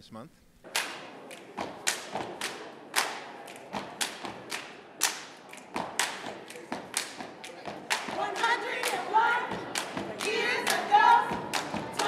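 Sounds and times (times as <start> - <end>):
people stomping and clapping: 0.6 - 12.0.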